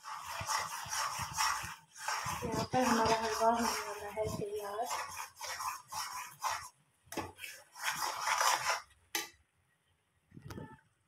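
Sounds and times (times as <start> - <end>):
spoon scraping in a pan: 0.0 - 9.0.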